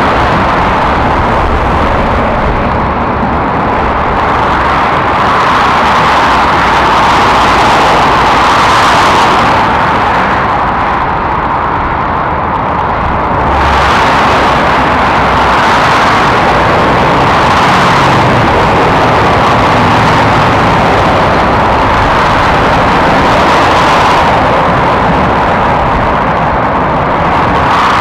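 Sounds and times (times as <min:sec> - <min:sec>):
motorway traffic passing: 0:00.0 - 0:28.0.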